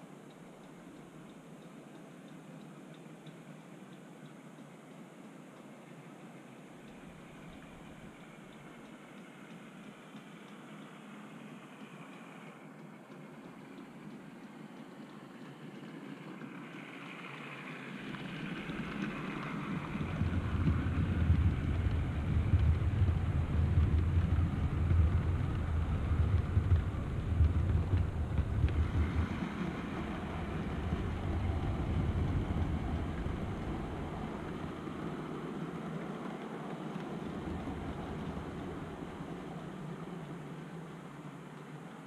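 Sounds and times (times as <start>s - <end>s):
model train wheels rumbling on rails: 5.6s - 42.0s.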